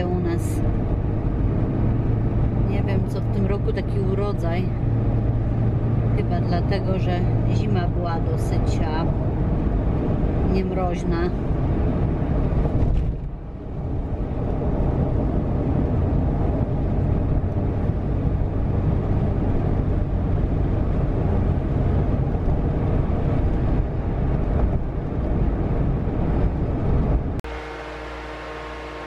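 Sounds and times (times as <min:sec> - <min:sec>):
car driving road noise: 0:00.0 - 0:29.0.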